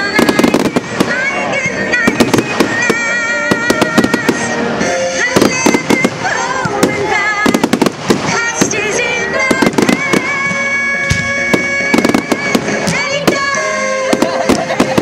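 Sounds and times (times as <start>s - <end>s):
firework shells bursting and crackling: 0.0s - 15.0s
music with long held notes: 0.0s - 15.0s.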